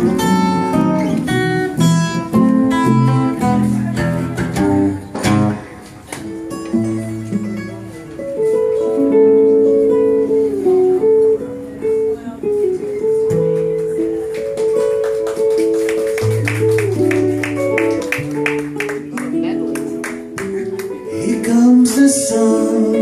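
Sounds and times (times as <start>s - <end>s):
acoustic and electric guitars playing: 0.0s - 23.0s.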